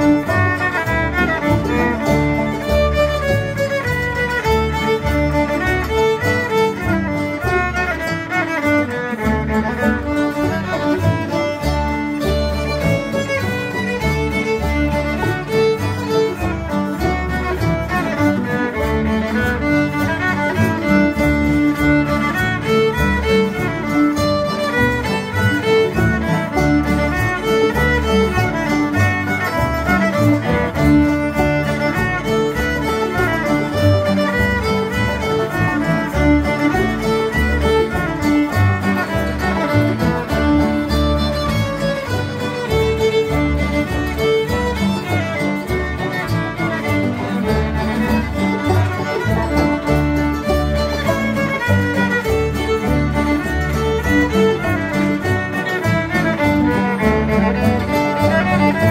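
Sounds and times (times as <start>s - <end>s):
banjo: 0.0s - 58.9s
fiddles playing dance tune: 0.0s - 58.9s
guitars: 0.0s - 58.9s
upright bass: 0.0s - 58.9s.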